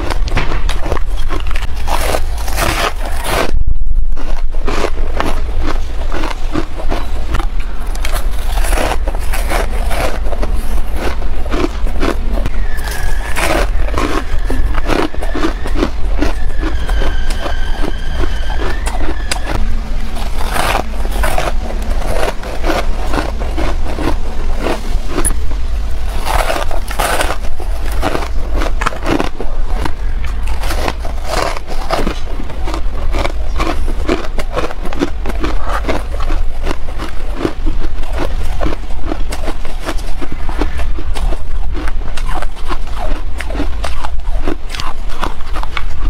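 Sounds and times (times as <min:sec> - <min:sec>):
frost crunching while chewed: 0:00.0 - 0:46.0.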